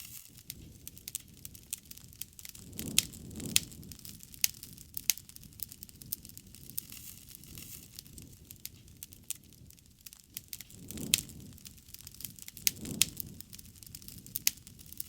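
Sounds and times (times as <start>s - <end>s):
soft hiss: 0.0s - 15.0s
wood fire crackling: 0.0s - 15.0s.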